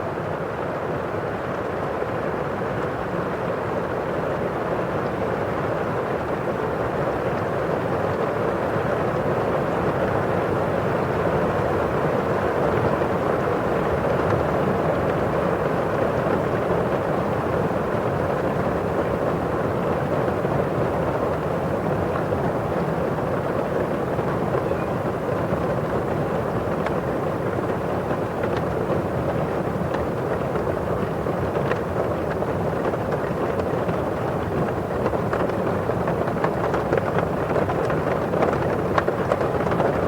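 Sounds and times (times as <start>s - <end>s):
rain on a windowpane: 0.0s - 40.0s.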